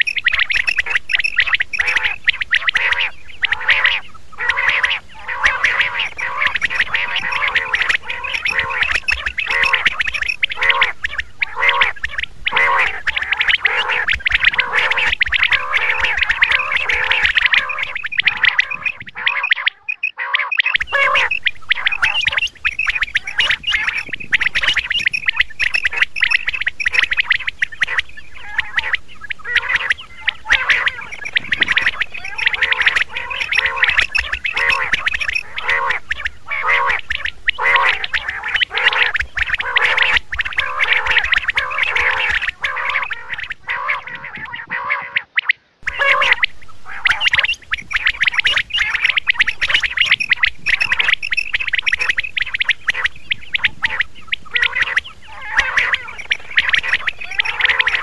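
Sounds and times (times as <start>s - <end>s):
quail calling: 0.0s - 58.0s.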